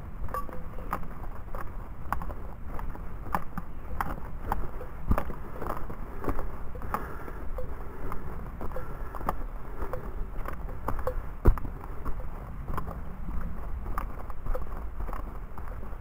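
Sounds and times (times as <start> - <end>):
footsteps on forest trail: 0.0 - 16.0
low microphone rumble: 0.0 - 16.0.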